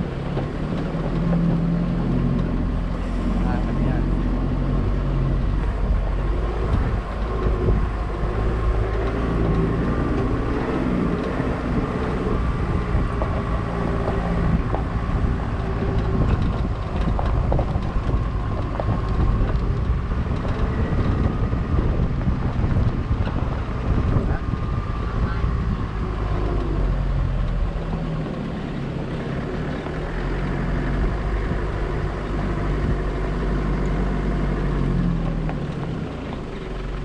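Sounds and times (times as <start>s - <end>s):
tyre and road noise: 0.0s - 37.0s
vehicle engine running: 0.0s - 37.0s.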